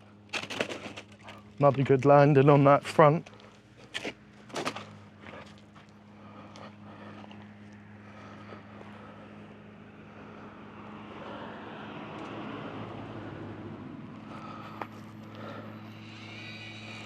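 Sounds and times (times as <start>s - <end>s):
motorbike engines droning: 0.0s - 17.0s
steady low hum: 0.0s - 17.0s.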